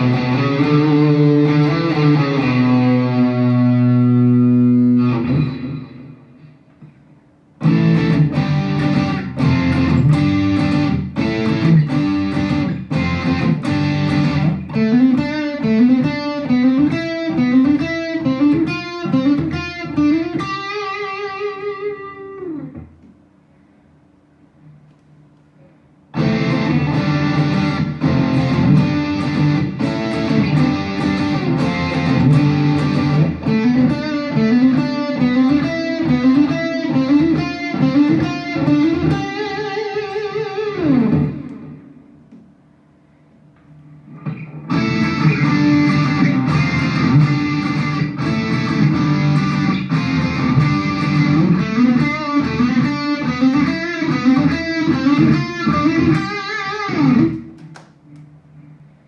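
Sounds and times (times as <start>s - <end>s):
electric guitar chords and riffs: 0.0s - 7.0s, 7.6s - 23.2s, 26.1s - 42.2s, 43.9s - 58.2s.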